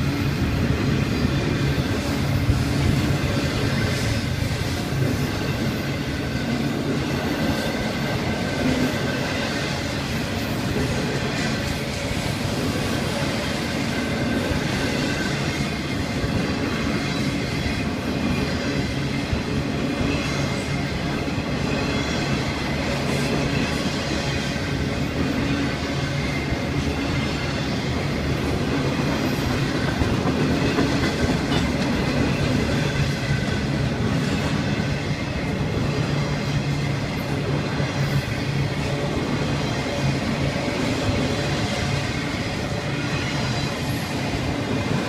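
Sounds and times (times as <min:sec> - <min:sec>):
freight train wheels on rails: 0:00.0 - 0:45.0.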